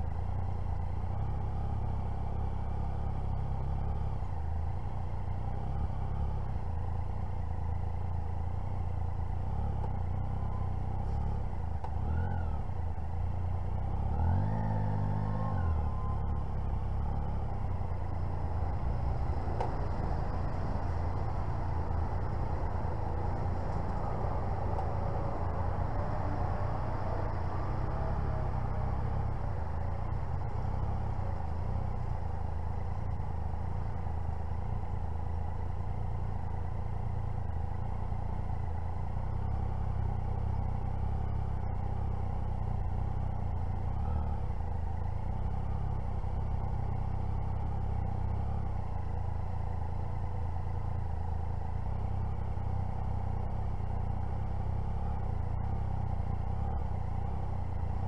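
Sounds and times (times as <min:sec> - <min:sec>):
motorcycle engine running steadily: 0:00.0 - 0:58.0.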